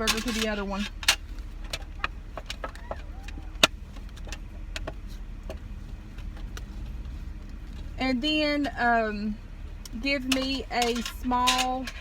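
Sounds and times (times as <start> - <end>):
small clicks and rattles: 0.0 - 8.0, 9.8 - 12.0
car idling inside cabin: 0.0 - 12.0.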